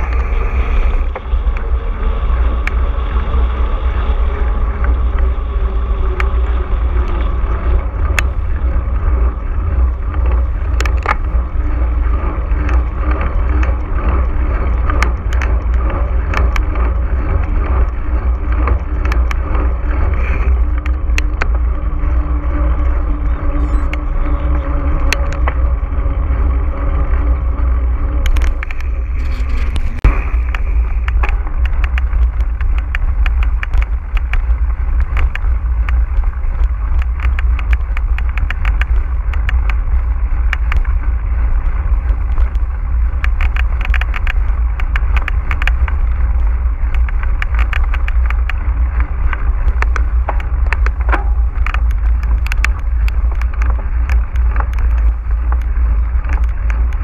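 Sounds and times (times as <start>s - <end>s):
pitched hum: 0.0s - 57.0s
wind rumble on microphone: 0.0s - 57.0s
bike clicks knocks and rattles: 4.7s - 57.0s.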